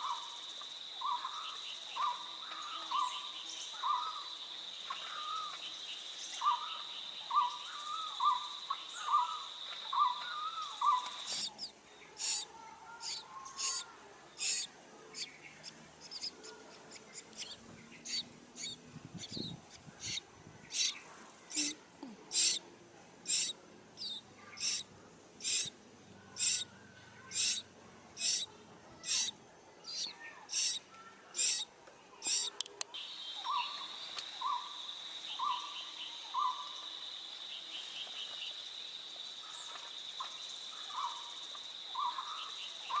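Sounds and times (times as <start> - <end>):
nestlings hissing begging calls: 0.0 - 15.3, 20.0 - 22.6, 23.2 - 25.7, 26.4 - 26.6, 27.3 - 27.6, 28.2 - 30.8, 31.4 - 43.0
short chirping calls: 0.0 - 22.6, 23.2 - 25.7, 26.4 - 26.7, 27.3 - 27.6, 28.2 - 43.0.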